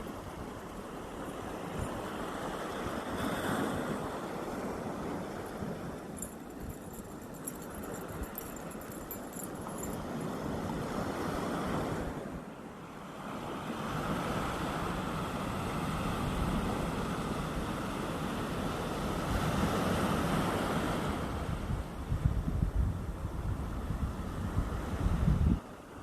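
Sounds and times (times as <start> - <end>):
small waves washing onto beach: 0.0 - 26.0.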